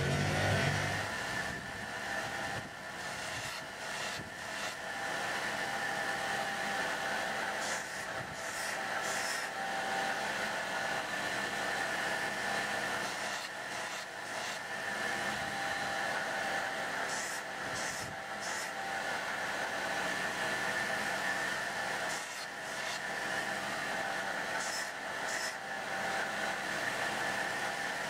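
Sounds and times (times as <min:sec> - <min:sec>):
belt grinder running: 0:00.0 - 0:28.0.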